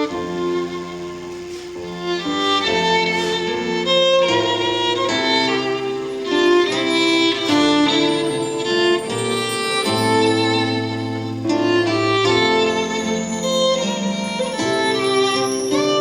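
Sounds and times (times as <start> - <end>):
strings playing: 0.0 - 16.0
violin melody: 0.0 - 16.0.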